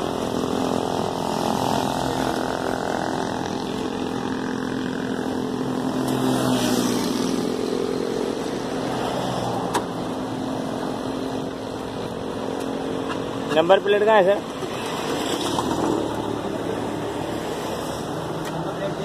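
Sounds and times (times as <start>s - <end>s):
street traffic noise: 0.0s - 19.0s
vehicle engine running: 0.0s - 19.0s.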